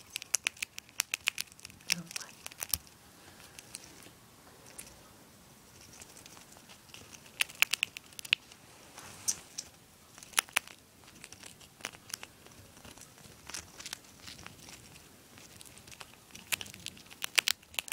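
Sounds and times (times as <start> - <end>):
hamster gnawing peanut shell: 0.0 - 5.0, 5.7 - 17.9.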